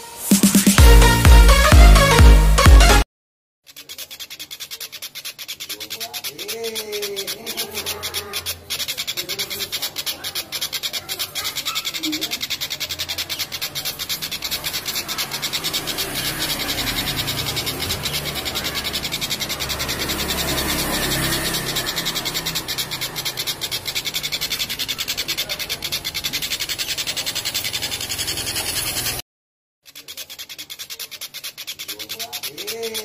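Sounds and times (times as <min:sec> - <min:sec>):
kingfisher rattling cackle: 0:03.7 - 0:29.2, 0:29.9 - 0:33.0.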